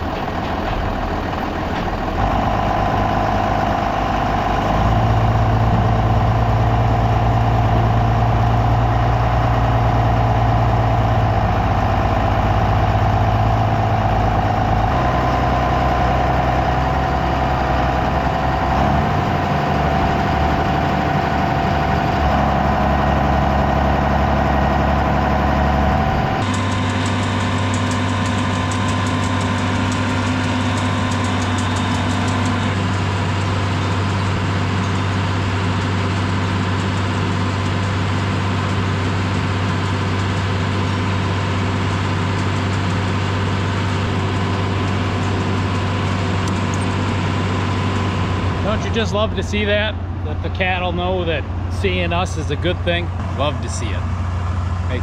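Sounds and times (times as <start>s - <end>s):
farm machinery engine running: 0.0s - 55.0s.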